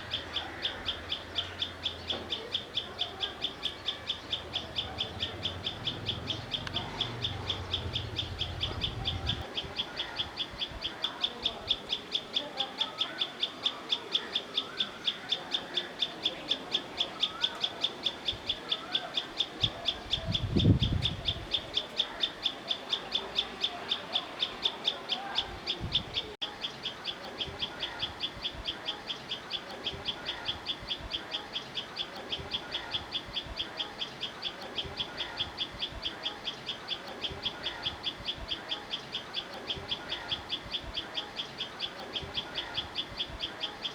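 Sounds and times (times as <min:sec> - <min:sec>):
birds warbling: 0:00.0 - 0:43.9.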